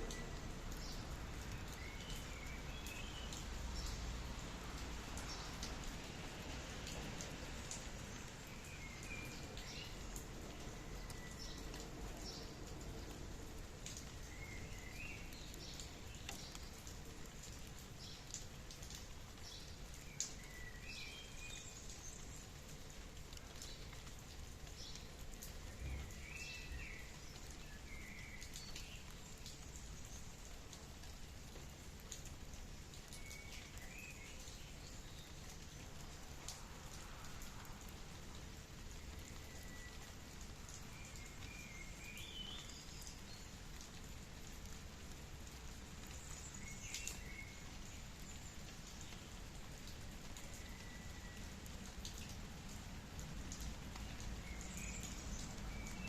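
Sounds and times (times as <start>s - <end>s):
light rain: 0.0s - 56.0s.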